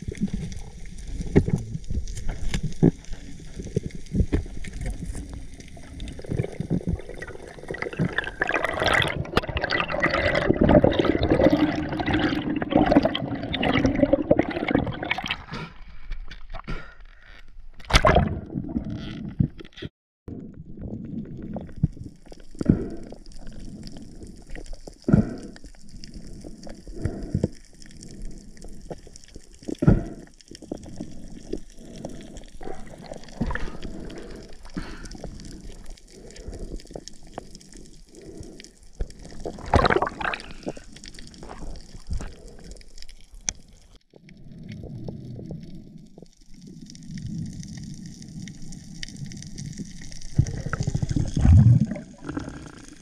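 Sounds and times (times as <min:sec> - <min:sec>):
underwater bubbling and gurgling: 0:00.0 - 0:53.0.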